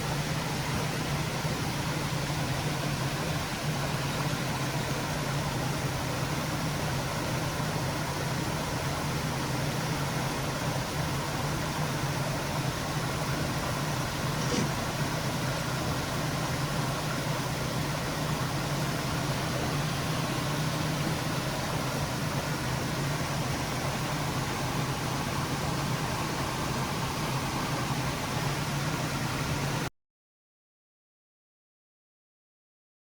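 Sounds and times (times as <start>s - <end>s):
steady rain falling: 0.3s - 29.9s.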